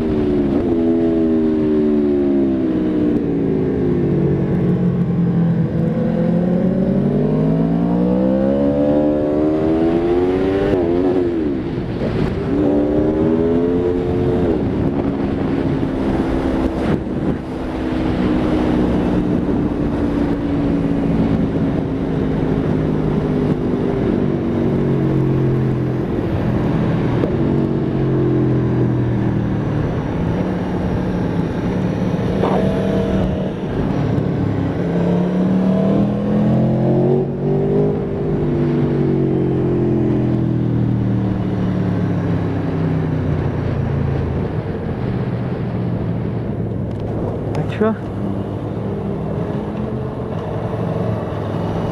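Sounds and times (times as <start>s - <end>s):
motorcycle engine revving: 0.0s - 44.8s.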